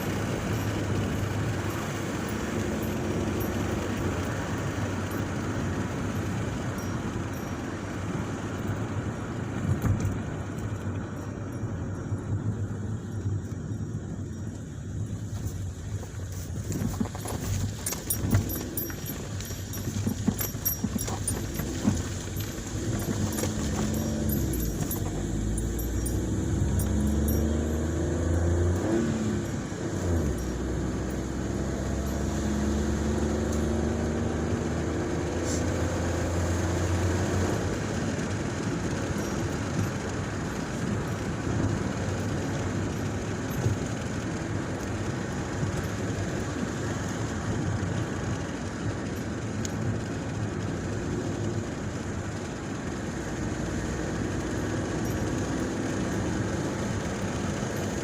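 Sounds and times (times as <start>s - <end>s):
road rumble: 0.0s - 58.0s
vehicle engine running: 0.0s - 58.0s.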